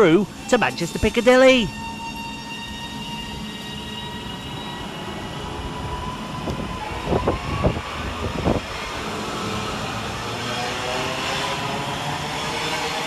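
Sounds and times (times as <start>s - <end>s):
electric train whine: 0.0s - 13.0s
train wheel rumble: 0.0s - 13.0s.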